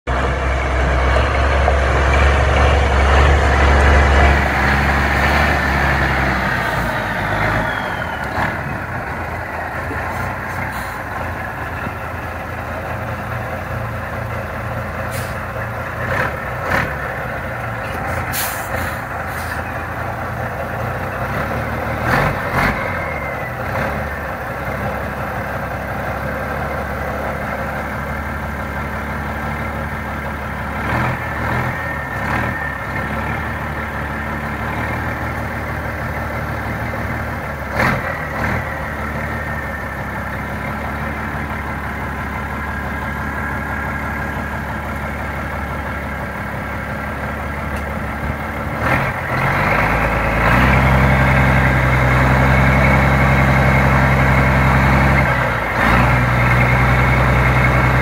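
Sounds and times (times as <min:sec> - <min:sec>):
diesel truck engine idling: 0:00.1 - 0:58.0.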